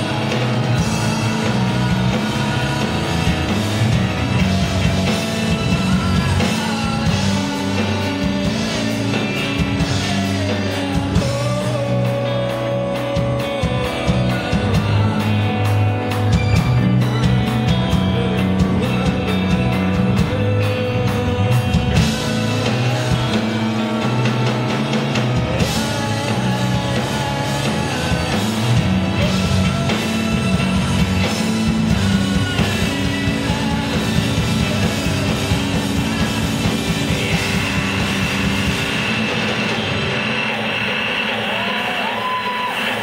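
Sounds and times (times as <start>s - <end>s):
live rock band playing: 0.0s - 43.0s.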